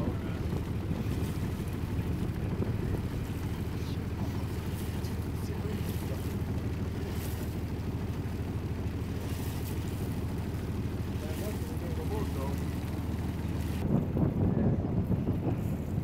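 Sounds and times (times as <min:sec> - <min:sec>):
faint water splashes: 0:00.0 - 0:13.9
boat engine rumble: 0:00.0 - 0:16.0.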